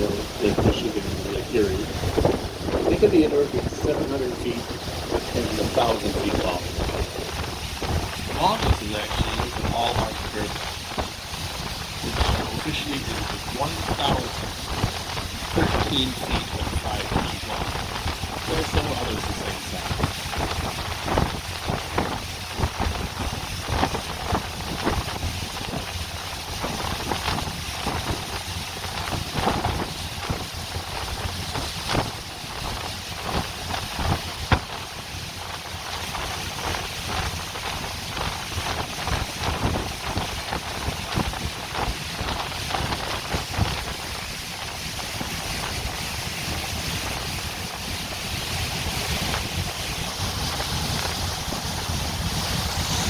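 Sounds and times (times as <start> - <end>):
water rushing along hull: 0.0 - 53.0
wind buffeting microphone: 0.0 - 53.0.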